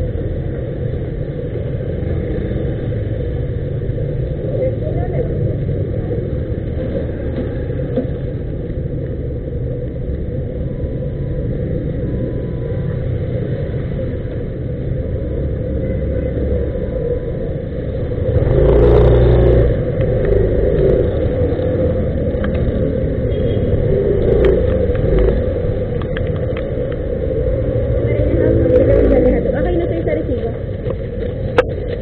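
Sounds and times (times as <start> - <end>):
scooter engine rumbling: 0.0 - 32.0.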